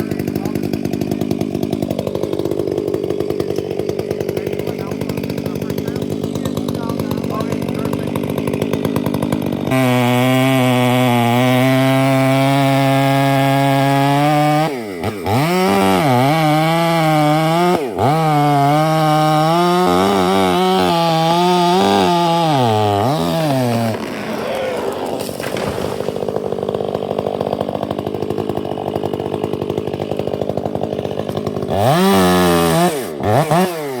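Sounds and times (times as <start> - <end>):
chainsaw cutting: 0.0 - 34.0.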